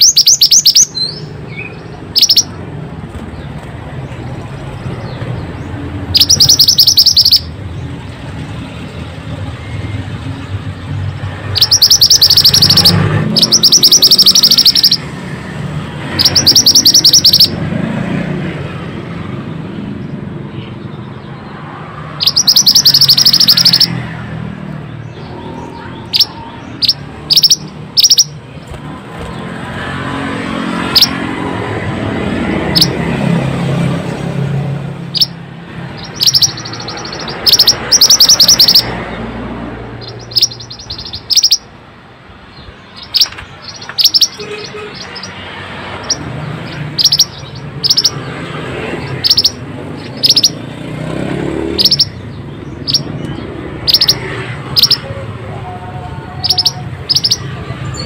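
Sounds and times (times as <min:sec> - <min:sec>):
bird chirps and trills: 0:00.0 - 0:17.7, 0:19.7 - 0:41.8, 0:42.4 - 0:55.6, 0:56.3 - 0:58.0.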